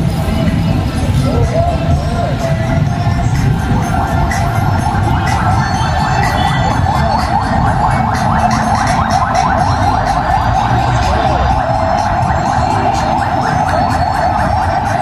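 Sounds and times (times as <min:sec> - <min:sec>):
wavering siren-like wail: 0:01.0 - 0:15.0.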